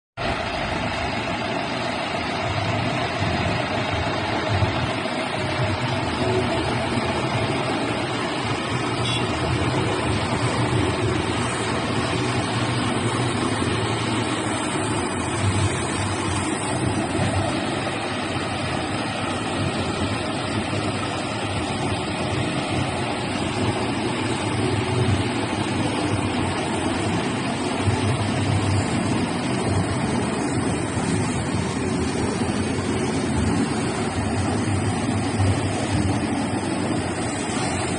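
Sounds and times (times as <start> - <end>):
concrete mixer engine droning: 0.2 - 37.9.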